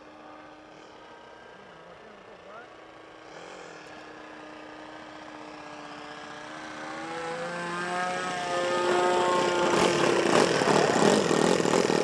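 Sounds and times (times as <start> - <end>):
model plane propeller engine: 0.0 - 12.0.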